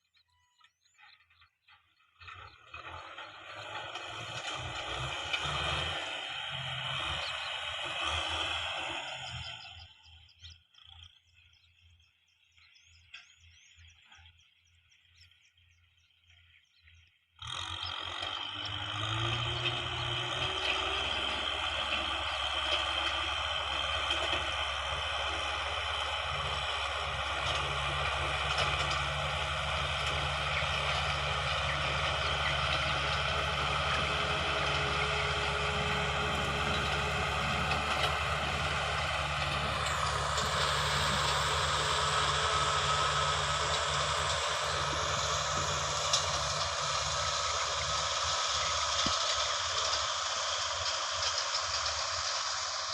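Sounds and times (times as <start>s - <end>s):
heavy machinery engine running: 2.2s - 10.6s, 17.4s - 52.9s.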